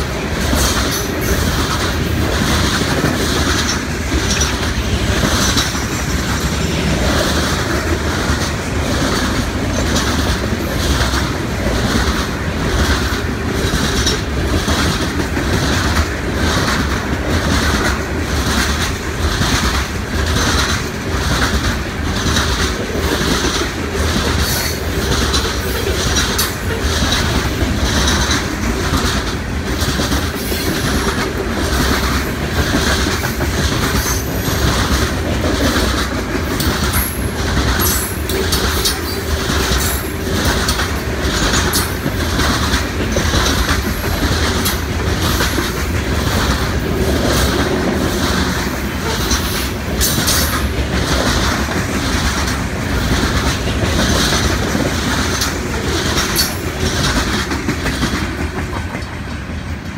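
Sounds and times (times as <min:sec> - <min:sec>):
train wheels clacking: 0:00.0 - 0:59.9.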